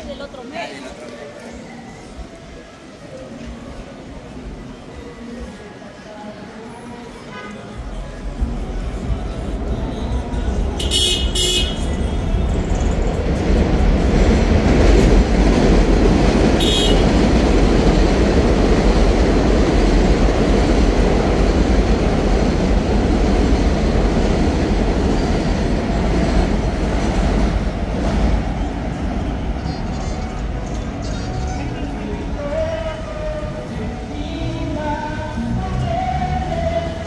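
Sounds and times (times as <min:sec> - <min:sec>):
subway train passing overhead: 0:00.0 - 0:37.0.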